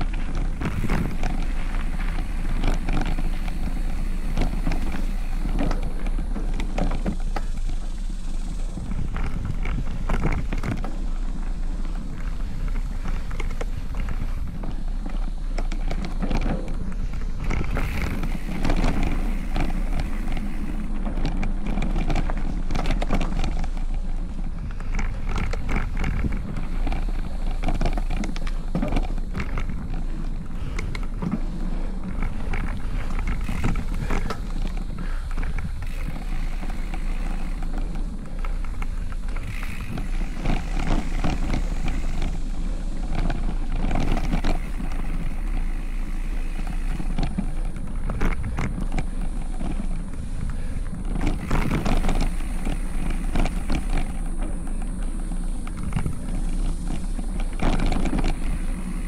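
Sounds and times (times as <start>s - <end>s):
bike rattling and knocking: 0.0s - 59.0s
bike tyres rumbling on trail: 0.0s - 59.0s
wind on microphone: 0.0s - 59.0s.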